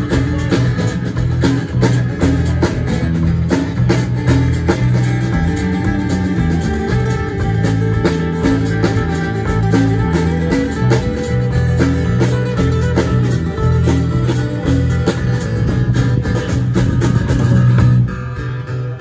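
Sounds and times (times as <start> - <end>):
drum kit cymbal beat: 0.0 - 18.1
bass notes: 0.0 - 19.0
strummed guitars: 0.0 - 19.0.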